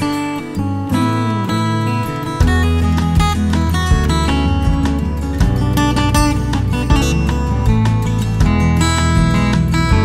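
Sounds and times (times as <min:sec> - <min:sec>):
bass: 0:00.0 - 0:10.0
strummed acoustic guitar music: 0:00.0 - 0:10.0.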